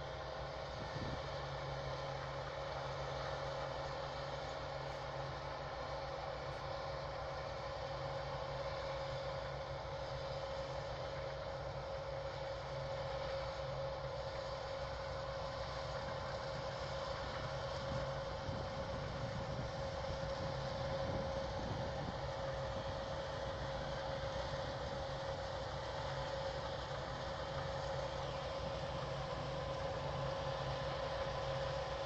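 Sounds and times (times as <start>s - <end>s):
combine harvester engine drone: 0.0s - 32.0s
constant mechanical whine: 0.0s - 32.0s.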